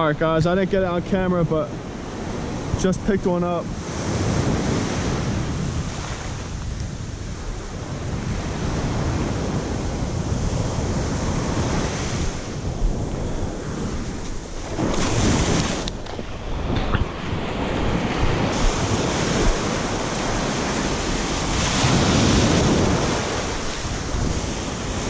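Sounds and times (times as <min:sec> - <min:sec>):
small waves washing on sand: 0:00.0 - 0:25.0
wind rumbling on microphone: 0:00.0 - 0:25.0.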